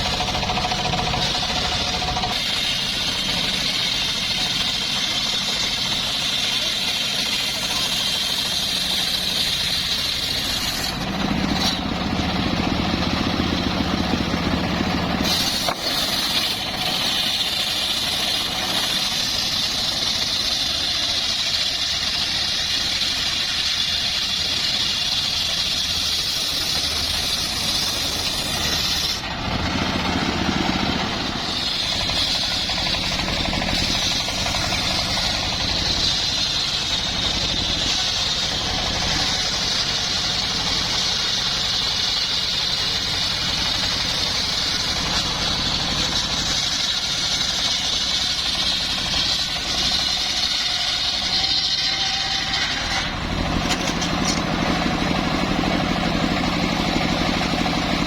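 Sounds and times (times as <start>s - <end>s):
engine-driven saw whining: 0.0s - 58.0s.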